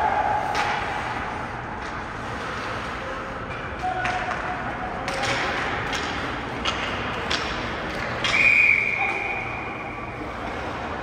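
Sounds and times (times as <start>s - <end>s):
arena noise: 0.0s - 11.0s.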